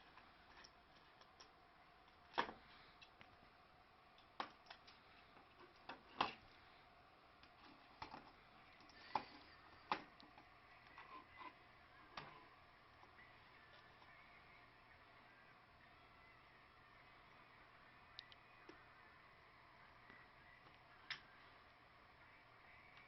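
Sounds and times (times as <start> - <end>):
faint background noise: 0.0 - 23.0.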